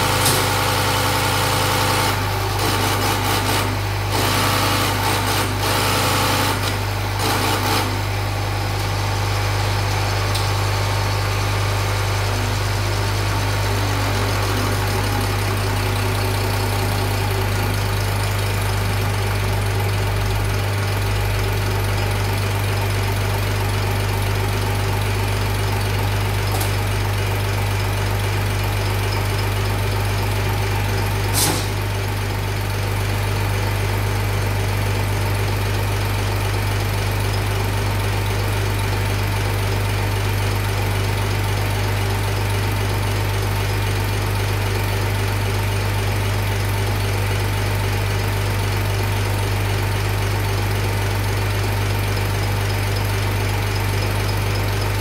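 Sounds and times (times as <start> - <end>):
pump running mechanically: 0.0 - 55.0.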